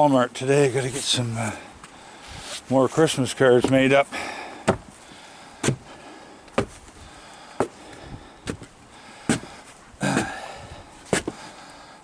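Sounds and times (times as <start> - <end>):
slow footsteps: 1.8 - 11.7.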